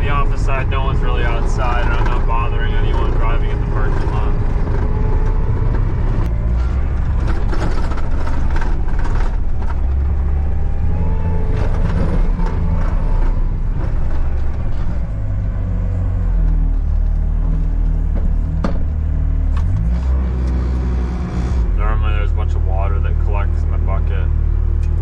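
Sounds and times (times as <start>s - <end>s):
clanks and rattles: 0.0s - 21.8s
skid steer engine running: 0.0s - 25.0s.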